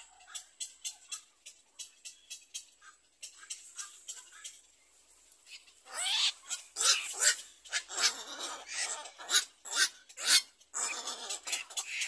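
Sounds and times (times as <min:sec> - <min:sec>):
herons squawking: 0:00.0 - 0:04.8, 0:05.4 - 0:12.0.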